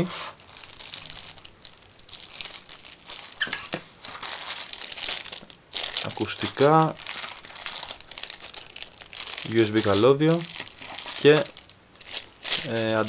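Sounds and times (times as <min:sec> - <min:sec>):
packaging crinkling and rustling: 0:00.3 - 0:13.0.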